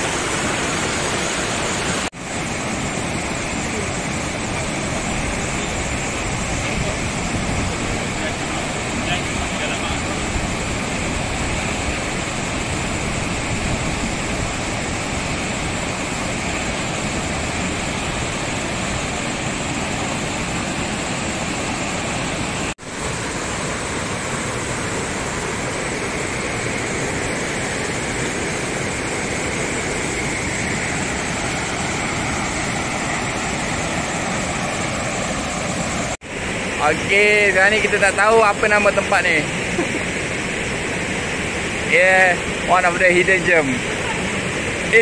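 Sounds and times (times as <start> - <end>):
river water rushing over boulders: 0.0 - 45.0.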